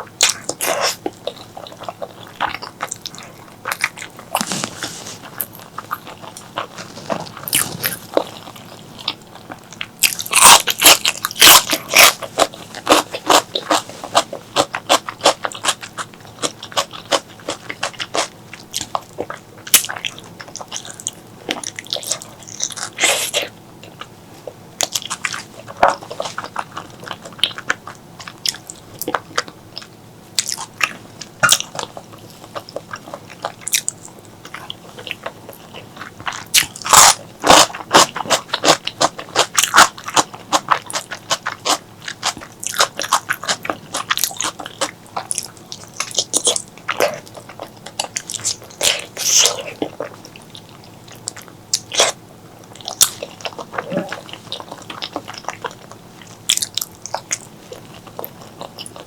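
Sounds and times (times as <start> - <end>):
chewing and mouth smacks: 0.1 - 59.0.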